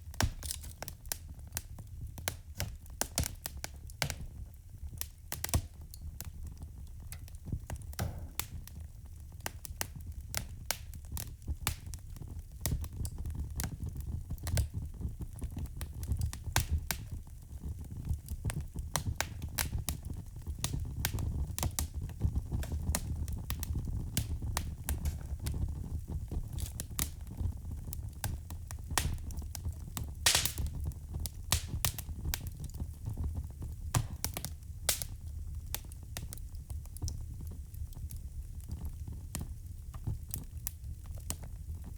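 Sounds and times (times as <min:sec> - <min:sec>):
low rumble of flames: 0:00.0 - 0:41.9
wood fire crackling and popping: 0:00.0 - 0:41.9.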